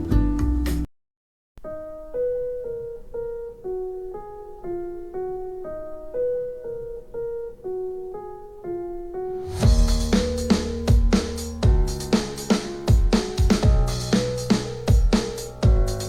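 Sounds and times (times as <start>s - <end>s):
soft keyboard melody: 0.0s - 0.9s, 1.6s - 16.0s.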